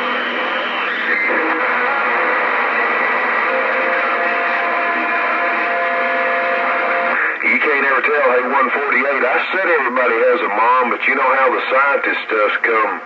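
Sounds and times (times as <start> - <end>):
radio static: 0.0 - 13.0
whistling radio tones: 0.0 - 13.0.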